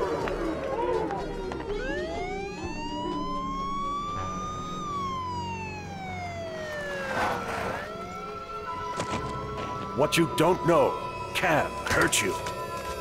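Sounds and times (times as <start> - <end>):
police siren wailing: 0.1 - 13.0.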